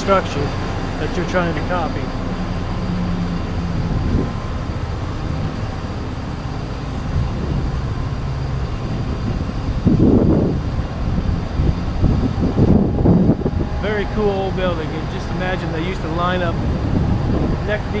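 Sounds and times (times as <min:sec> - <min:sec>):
engines rumbling on a street: 0:00.0 - 0:18.0.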